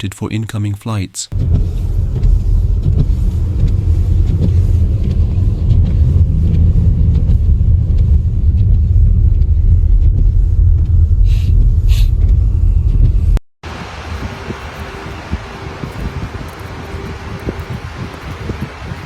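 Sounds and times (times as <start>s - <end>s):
vehicle engine rumbling: 1.3s - 19.0s.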